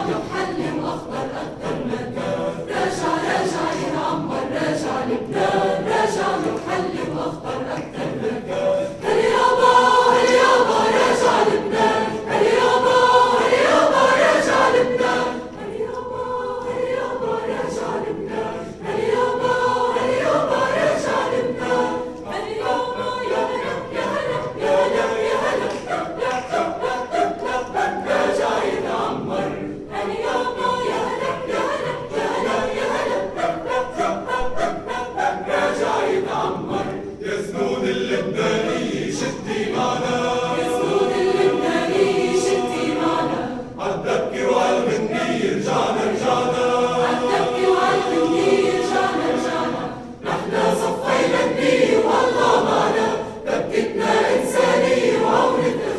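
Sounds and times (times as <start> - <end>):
choir singing a cappella: 0.0 - 55.9.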